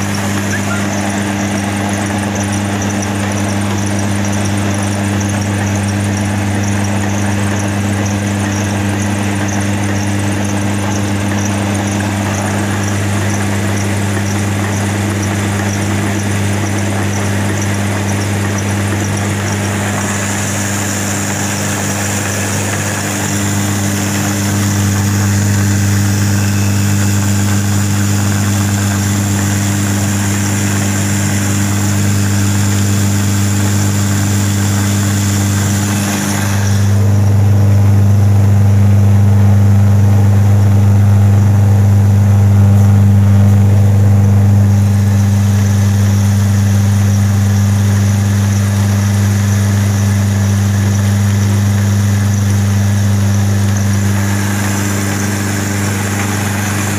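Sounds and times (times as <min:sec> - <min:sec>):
stone flour mill grinding: 0:00.0 - 0:37.7, 0:43.6 - 0:56.9
high machine whine: 0:00.0 - 0:56.9.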